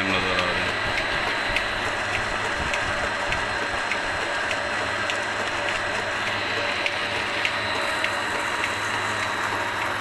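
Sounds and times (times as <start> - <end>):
water pump rushing: 0.0 - 10.0
faint mechanical tick: 0.3 - 10.0.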